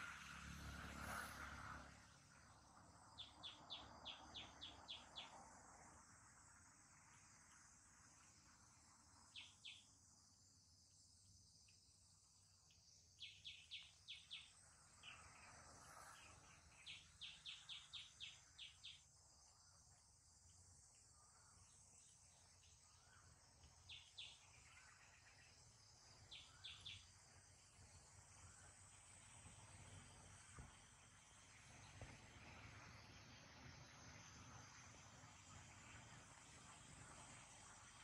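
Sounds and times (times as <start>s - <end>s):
high insect drone: 0.0s - 38.0s
short insect chirps: 0.0s - 38.0s.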